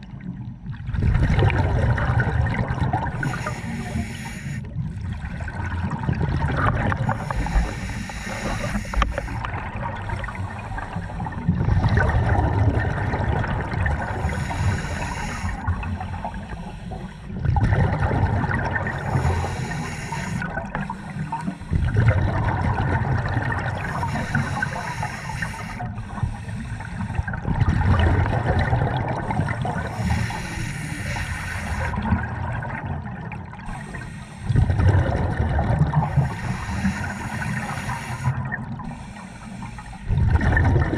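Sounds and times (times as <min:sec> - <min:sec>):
regulator exhaust bubbles: 0:00.0 - 0:30.9, 0:31.5 - 0:40.9
underwater wash: 0:00.0 - 0:40.9.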